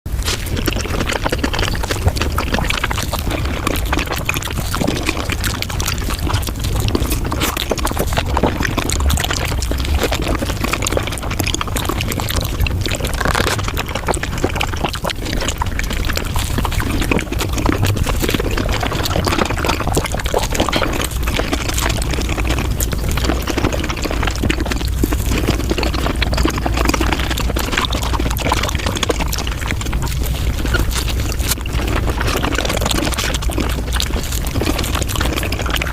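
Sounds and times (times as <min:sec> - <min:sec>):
sped-up chewing and mouth smacks: 0:00.1 - 0:35.9.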